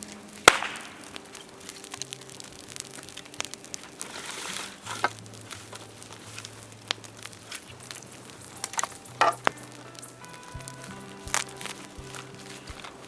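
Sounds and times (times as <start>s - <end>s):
bamboo crackling and snapping: 0.0s - 13.0s
faint rustle: 0.0s - 13.0s.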